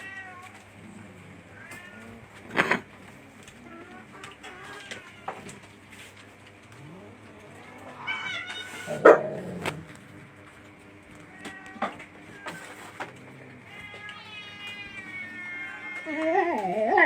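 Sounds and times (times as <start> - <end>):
cats meowing: 0.0 - 17.0.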